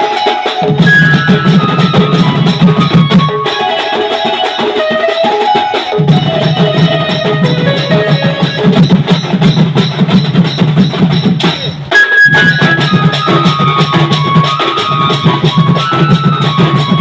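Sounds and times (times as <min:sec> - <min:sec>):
band music: 0:00.0 - 0:09.2, 0:11.4 - 0:17.0
held melody notes: 0:00.0 - 0:09.9, 0:11.9 - 0:17.0
drums keeping steady beat: 0:00.0 - 0:17.0.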